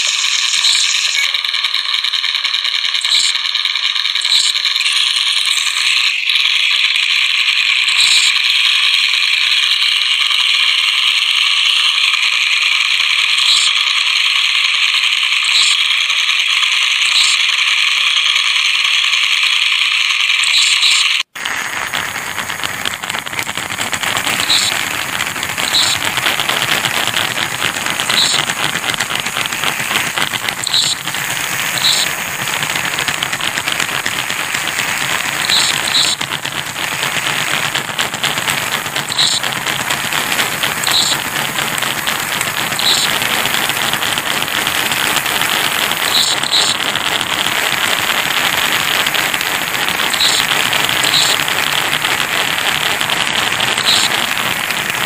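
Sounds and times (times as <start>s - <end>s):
harsh steady noise: 0.0s - 55.0s.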